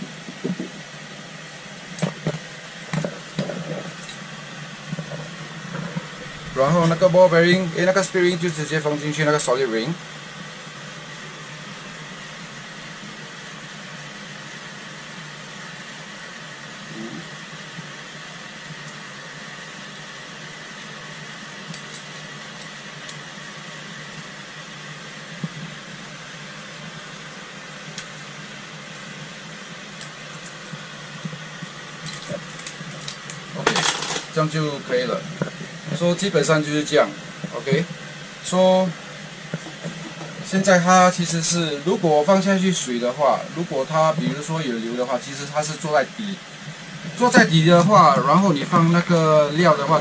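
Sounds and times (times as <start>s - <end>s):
faint high whine: 0.0s - 50.0s
machine hum and hiss: 0.0s - 50.0s.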